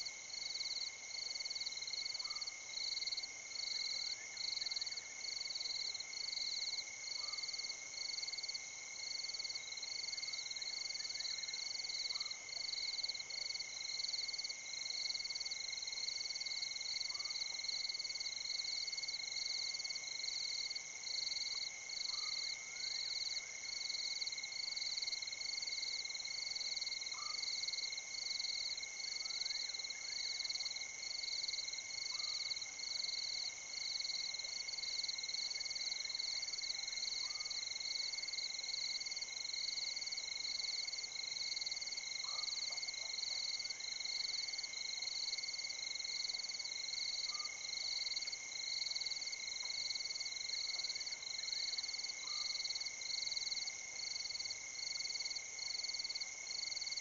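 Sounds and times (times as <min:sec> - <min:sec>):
steady high insect drone: 0:00.0 - 0:57.0.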